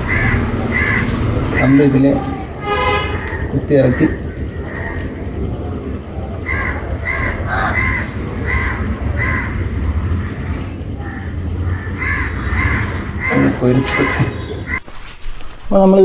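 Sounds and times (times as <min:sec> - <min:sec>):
steady low rumble: 0:00.0 - 0:13.3
bird cawing: 0:00.0 - 0:15.1.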